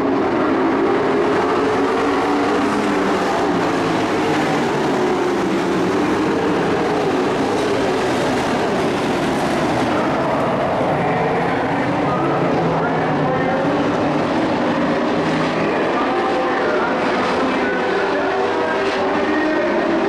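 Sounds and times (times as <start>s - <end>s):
race truck engines droning: 0.0s - 20.0s.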